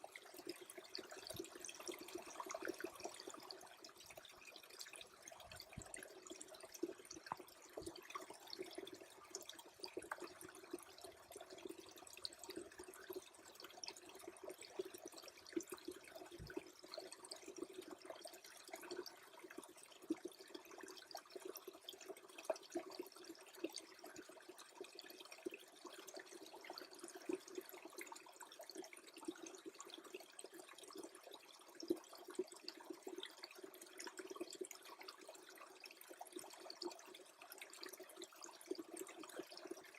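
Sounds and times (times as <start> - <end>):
stream trickling faintly: 0.0 - 39.9
tiny drips and ticks: 0.0 - 39.9.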